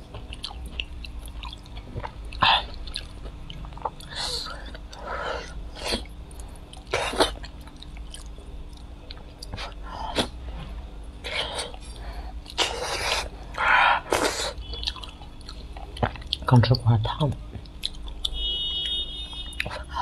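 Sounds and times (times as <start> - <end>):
person chewing and sucking: 0.1 - 10.4, 11.2 - 16.5, 17.6 - 18.4, 19.3 - 20.0.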